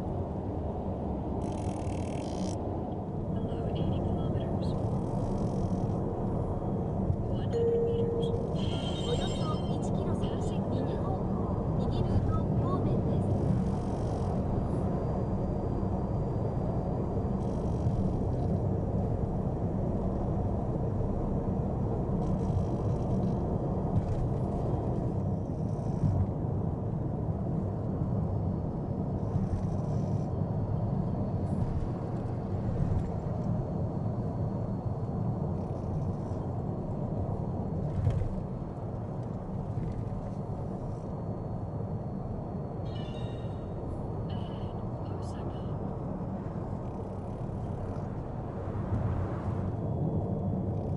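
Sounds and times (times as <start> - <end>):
road and tyre noise in car cabin: 0.0 - 50.9.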